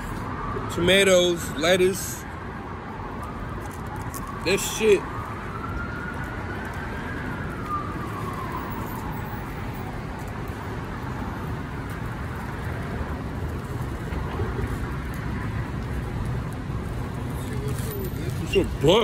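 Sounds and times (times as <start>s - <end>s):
faint siren: 0.0s - 19.0s
street traffic rumble: 0.0s - 19.0s.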